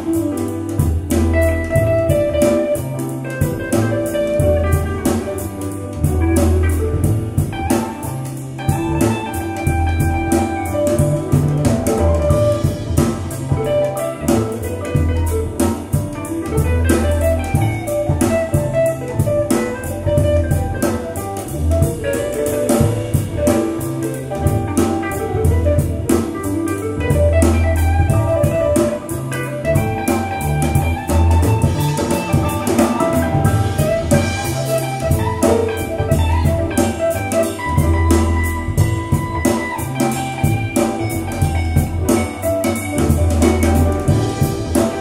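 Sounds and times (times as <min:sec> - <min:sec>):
jazz over loudspeakers: 0:00.0 - 0:45.0.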